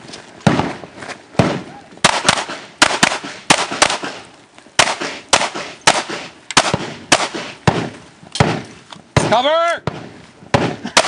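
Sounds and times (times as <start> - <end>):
pistol shots with echo: 1.4 - 11.0.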